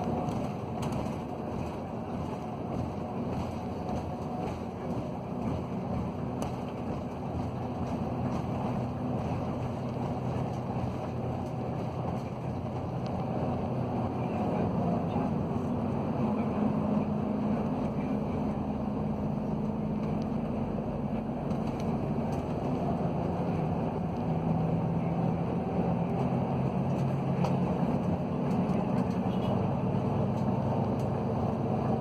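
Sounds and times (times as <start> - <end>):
vehicle engine and road drone: 0.0 - 32.0.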